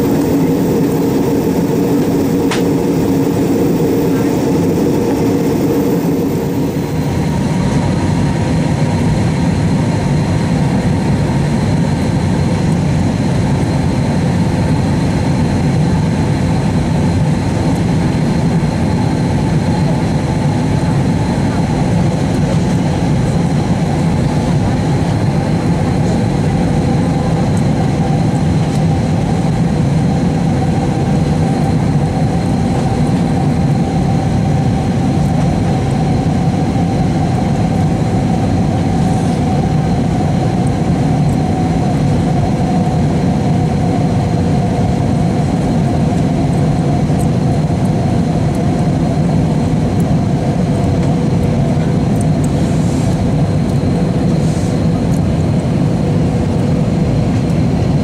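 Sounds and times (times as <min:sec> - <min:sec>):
faint steady whine: 0:00.0 - 0:58.0
jet cabin rumble: 0:00.0 - 0:58.0.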